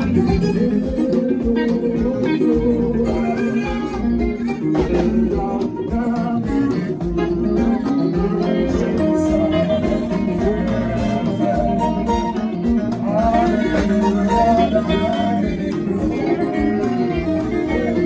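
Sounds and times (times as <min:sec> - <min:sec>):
drum kit: 0:00.0 - 0:18.0
electric guitar: 0:00.0 - 0:18.0
electronic keyboard: 0:00.0 - 0:18.0
live band playing highlife: 0:00.0 - 0:18.0.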